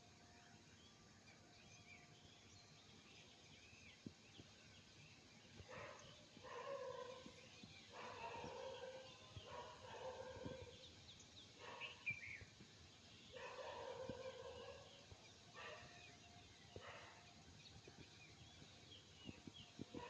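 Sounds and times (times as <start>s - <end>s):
small bird chirping: 1.7s - 20.0s.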